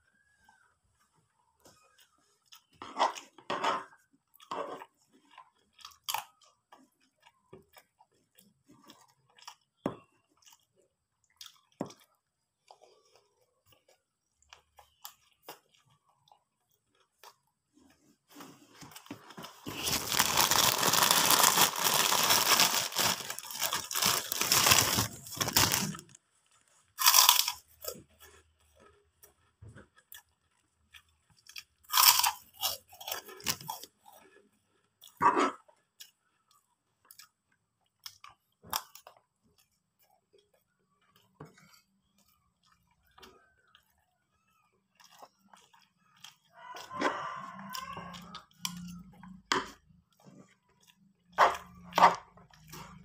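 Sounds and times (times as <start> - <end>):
person chewing and crunching food: 0.0 - 53.0.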